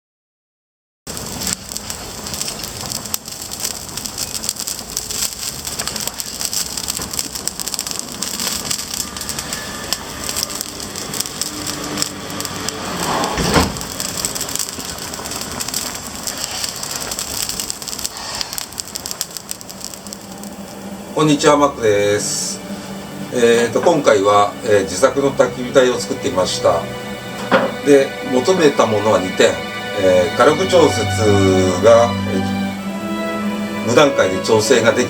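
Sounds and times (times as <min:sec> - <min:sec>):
wood fire crackling: 0:01.1 - 0:35.0.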